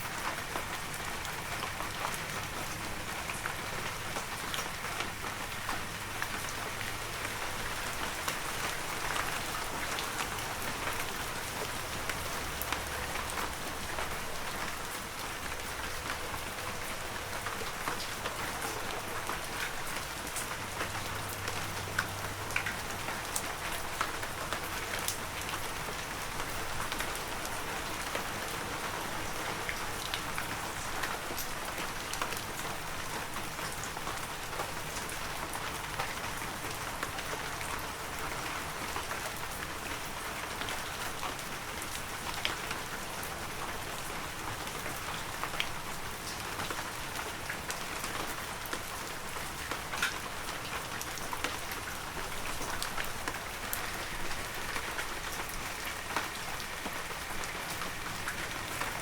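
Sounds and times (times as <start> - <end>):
heavy rain with ticking drops: 0.0 - 59.0.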